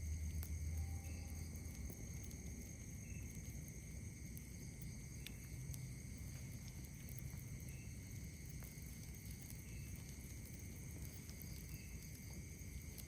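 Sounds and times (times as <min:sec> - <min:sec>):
faint campfire crackles: 0:00.0 - 0:13.0
night insects trilling: 0:00.0 - 0:13.0.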